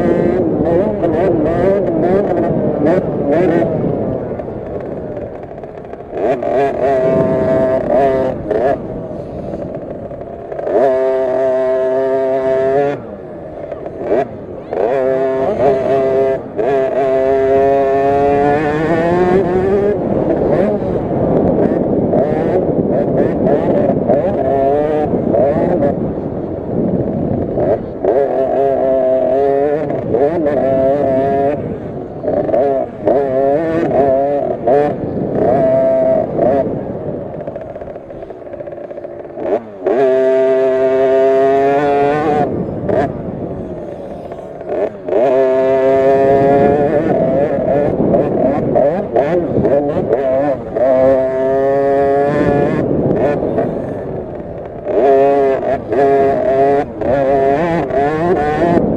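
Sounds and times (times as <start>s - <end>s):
two-stroke minibike engine revving: 0.0s - 58.9s.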